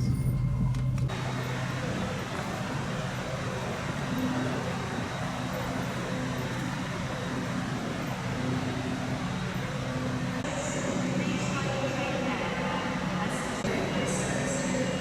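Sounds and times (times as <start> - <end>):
low hum of traffic: 0.0 - 15.0.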